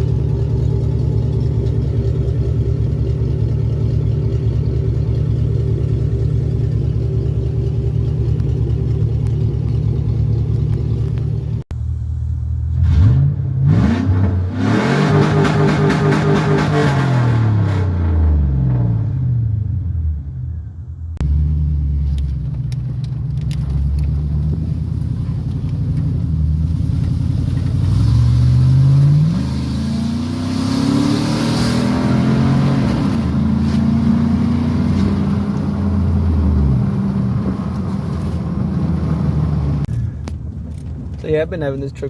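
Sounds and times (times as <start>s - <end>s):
car engine running and revving: 0.0s - 20.3s, 21.2s - 42.0s.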